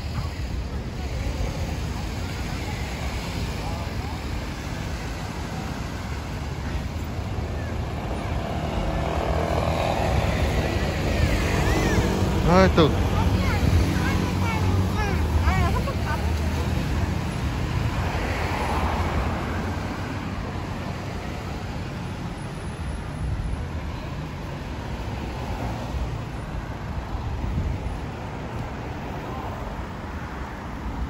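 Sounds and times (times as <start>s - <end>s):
cars and motorcycles passing: 0.0s - 31.0s.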